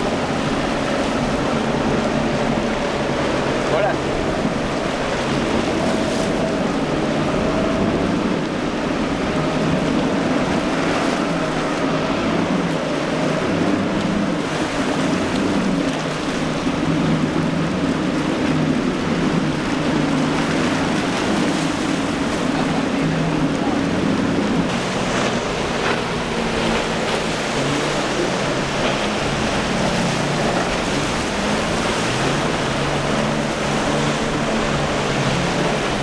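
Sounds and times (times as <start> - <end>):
outboard motors droning: 0.0 - 36.0
waves breaking: 0.0 - 36.0
wind: 0.0 - 36.0.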